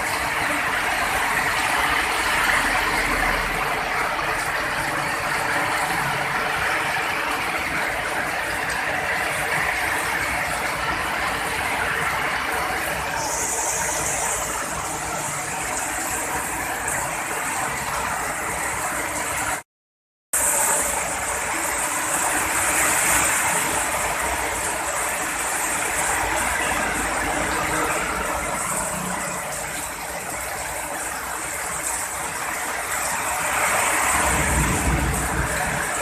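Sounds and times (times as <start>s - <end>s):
heavy rain hissing: 0.0s - 19.6s, 20.4s - 36.0s.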